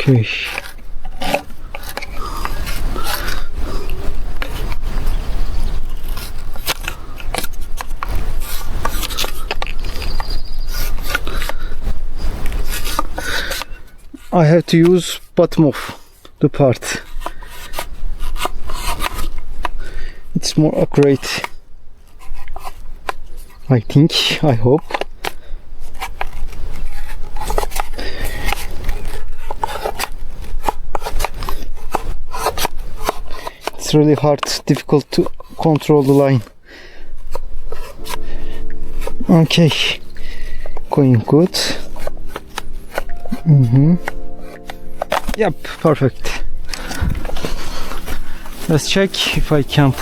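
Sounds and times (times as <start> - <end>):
knife scraping plastic pipe: 0.0 - 16.0, 16.8 - 20.0, 20.7 - 23.7, 24.3 - 43.2, 45.0 - 50.0.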